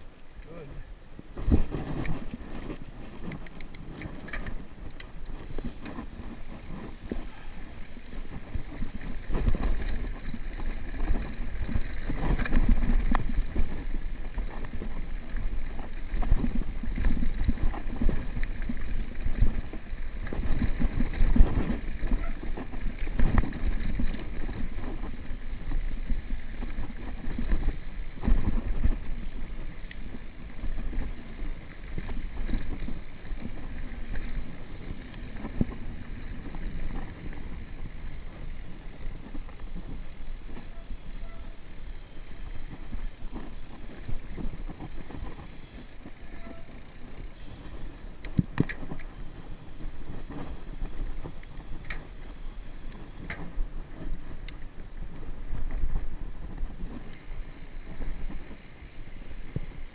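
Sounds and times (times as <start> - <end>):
bike knocking and rattling: 0.4 - 59.9.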